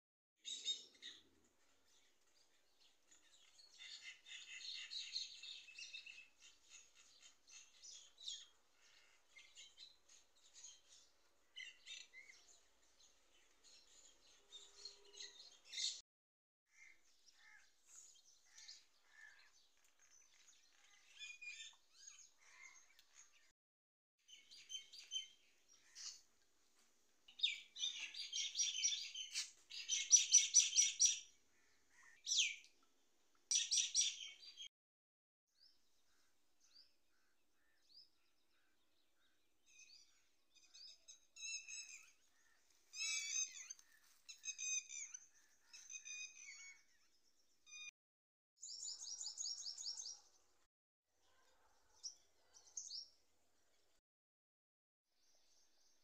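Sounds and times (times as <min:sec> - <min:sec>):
small birds chirping: 0:00.4 - 0:16.0, 0:16.7 - 0:23.6, 0:24.2 - 0:34.7, 0:35.6 - 0:47.9, 0:48.6 - 0:54.0.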